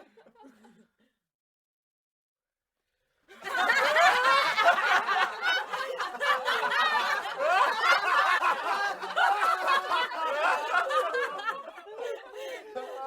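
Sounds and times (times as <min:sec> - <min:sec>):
group of people laughing: 0:00.0 - 0:01.1, 0:03.3 - 0:13.0.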